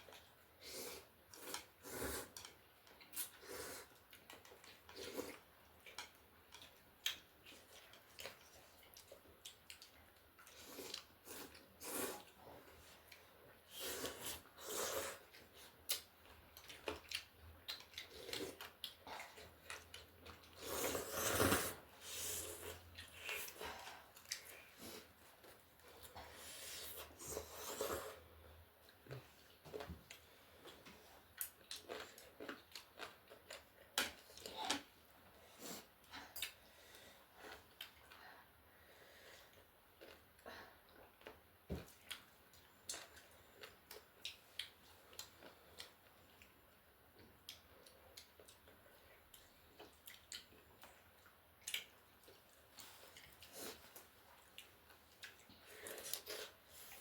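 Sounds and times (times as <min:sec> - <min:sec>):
chewing and mouth noises: 0:00.0 - 0:28.2, 0:28.8 - 0:34.9, 0:39.5 - 0:57.0.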